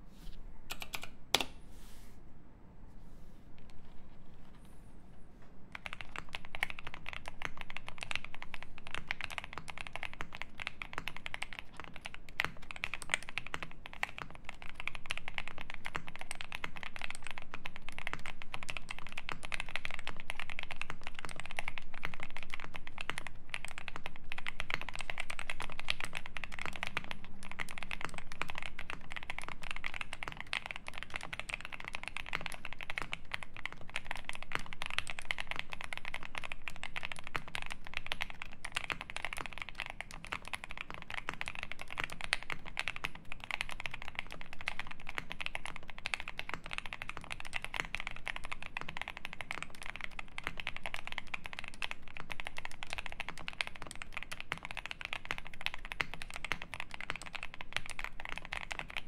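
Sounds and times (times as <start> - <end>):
mechanical keyboard typing: 0.7 - 1.6, 5.7 - 59.0.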